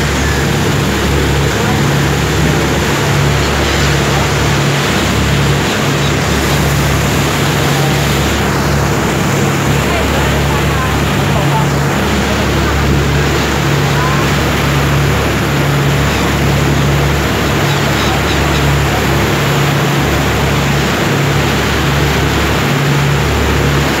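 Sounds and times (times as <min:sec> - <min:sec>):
boat engine drone: 0:00.0 - 0:24.0
churning wake rushing: 0:00.0 - 0:24.0.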